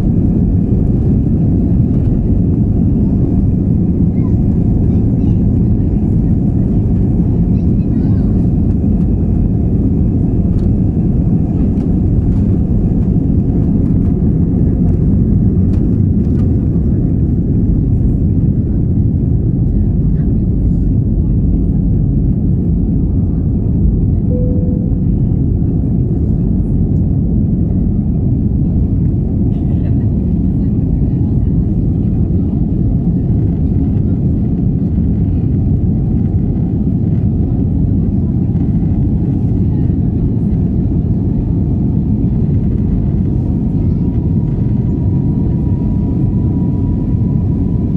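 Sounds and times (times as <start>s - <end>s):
aircraft cabin engine roar: 0.0s - 47.9s.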